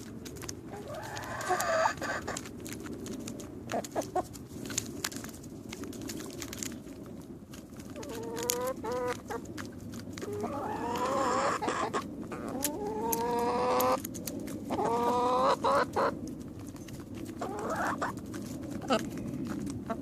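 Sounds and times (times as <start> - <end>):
beaks pecking at fruit: 0.0 - 20.0.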